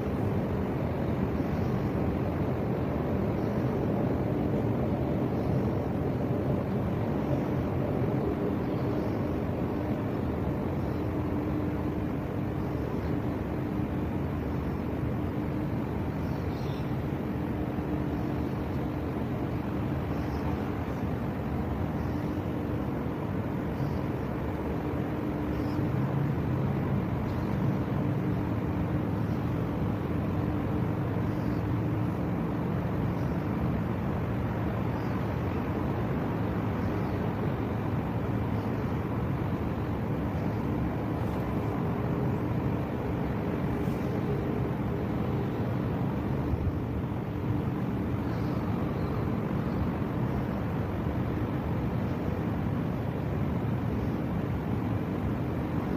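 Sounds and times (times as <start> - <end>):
faint low hum: 0.0 - 55.9
ship engine rumble: 0.0 - 55.9.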